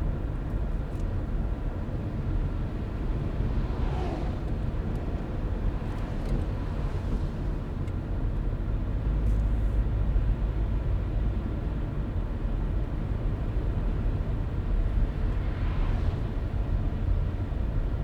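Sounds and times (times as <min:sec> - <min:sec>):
car driving road rumble: 0:00.0 - 0:18.0.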